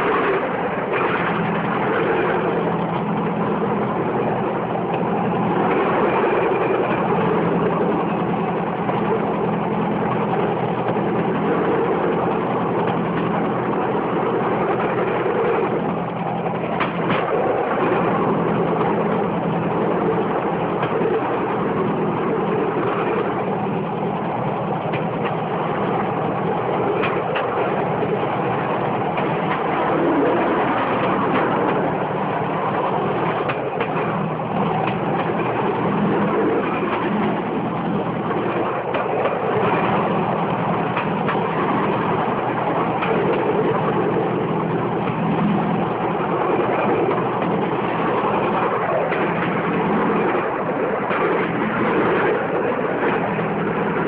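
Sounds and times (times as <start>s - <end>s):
engine droning: 0.0s - 54.0s
platform and wheels rattling: 0.0s - 54.0s
wheels clacking on track: 0.0s - 54.0s.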